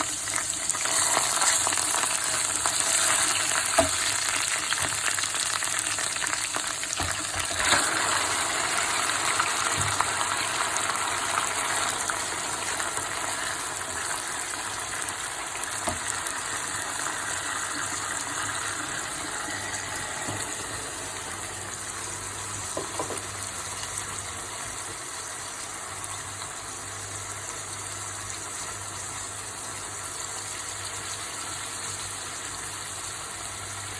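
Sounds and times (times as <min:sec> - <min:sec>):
chicken sizzling in hot oil: 0:00.0 - 0:33.9.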